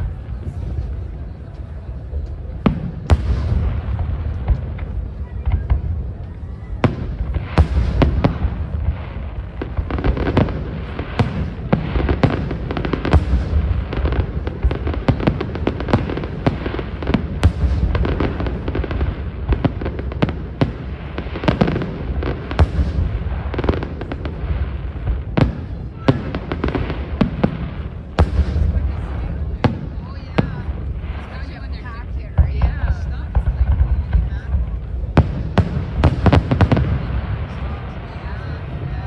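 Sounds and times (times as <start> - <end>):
low rumble of booms: 0.0 - 39.0
firework cracks and bangs: 2.0 - 39.0.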